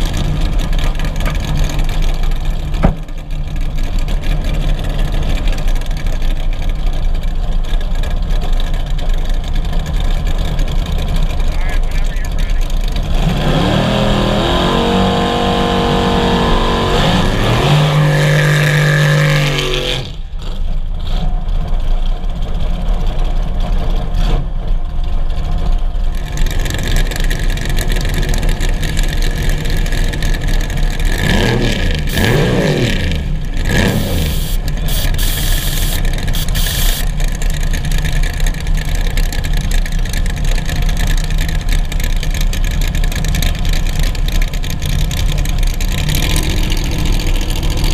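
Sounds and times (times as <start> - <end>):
car engine revving and idling: 0.0 - 47.9.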